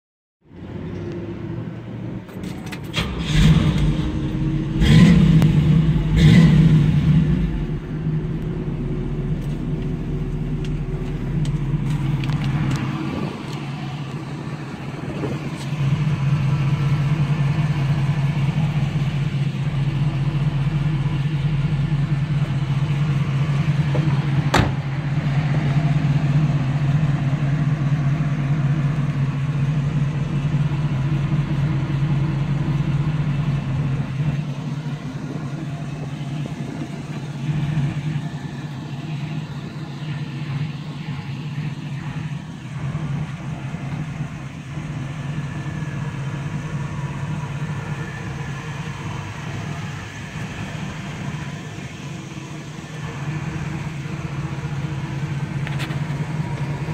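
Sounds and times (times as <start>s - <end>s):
car engine revving and idling: 0.5s - 56.9s.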